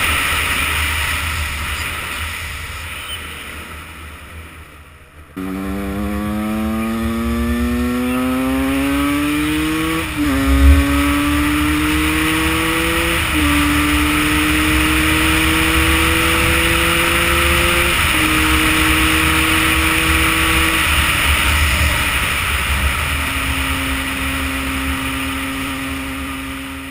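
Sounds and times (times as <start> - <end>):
motorcycle engine accelerating: 5.4 - 26.9.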